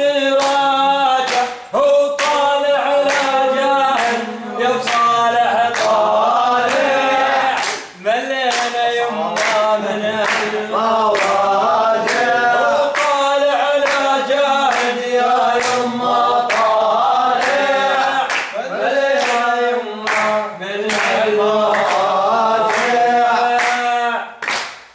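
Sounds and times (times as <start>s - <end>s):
men chanting together: 0.0s - 24.4s
hand claps: 0.0s - 24.9s.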